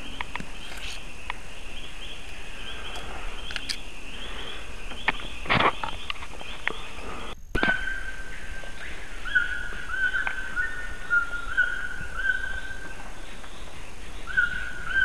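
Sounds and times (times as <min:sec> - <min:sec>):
trilling insects: 0:00.0 - 0:15.0.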